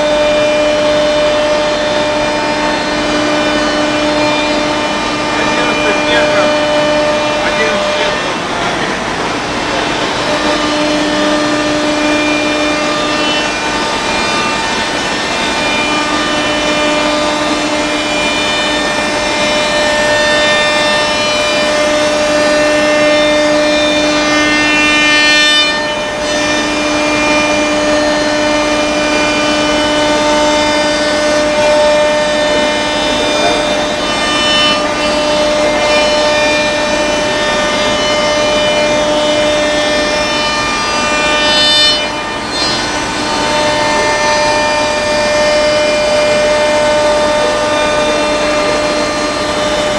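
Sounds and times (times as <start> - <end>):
cutter rushing through wood: 0.0 - 49.9
router spindle whine: 0.0 - 49.9.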